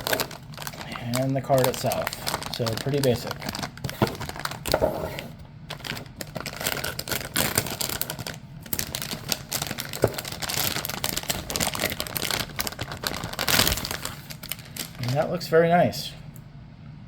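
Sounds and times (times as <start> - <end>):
plastic packaging crinkling: 0.0 - 15.5.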